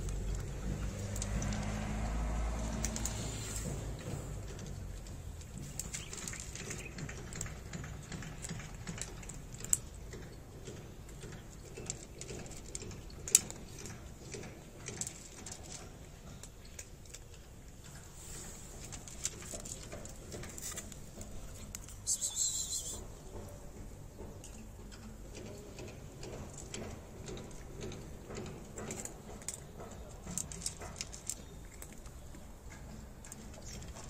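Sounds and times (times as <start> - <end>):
cat crunching dry kibble: 0.0 - 22.6, 24.4 - 34.0.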